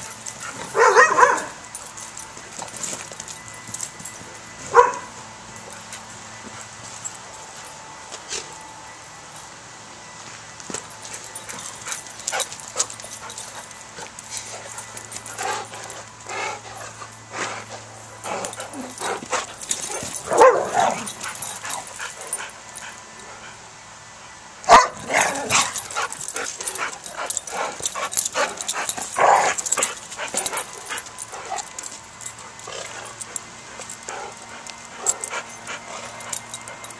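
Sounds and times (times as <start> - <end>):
dogs barking and yipping: 0.0 - 7.7, 10.8 - 23.6, 24.6 - 36.9.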